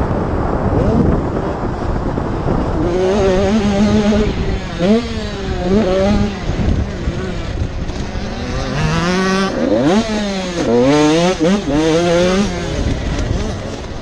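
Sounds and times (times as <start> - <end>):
two-stroke motocross engine revving: 0.6 - 14.0.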